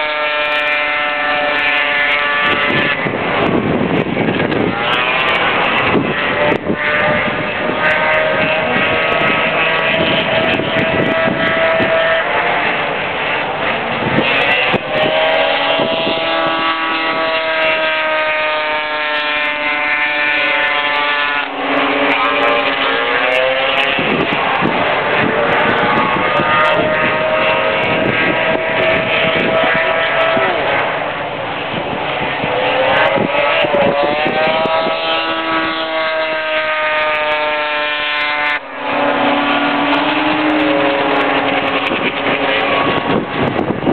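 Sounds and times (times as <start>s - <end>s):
snowmobile engines whining: 0.0s - 43.9s.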